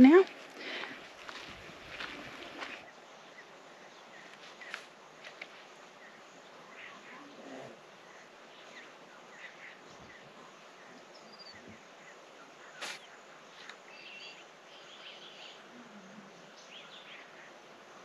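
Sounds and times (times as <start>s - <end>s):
insect hiss: 0.0s - 18.0s.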